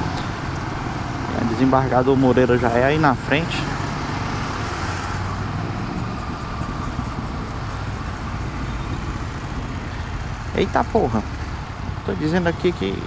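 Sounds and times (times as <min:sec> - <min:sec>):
motorcycle engine running: 0:00.0 - 0:13.0
road noise: 0:00.0 - 0:13.0
wind noise: 0:00.0 - 0:13.0.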